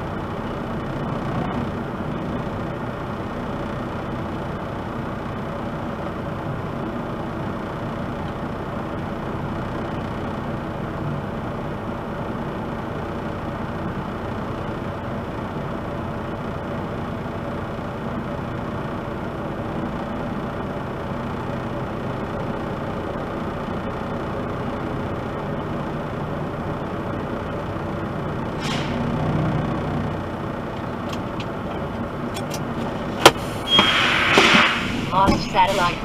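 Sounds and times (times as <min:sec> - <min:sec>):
car cabin hum and rumble: 0:00.0 - 0:36.0.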